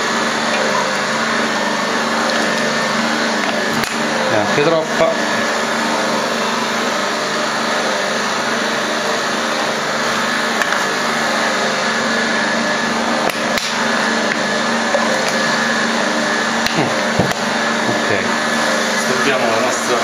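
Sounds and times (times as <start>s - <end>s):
stand mixer motor humming: 0.0s - 20.0s.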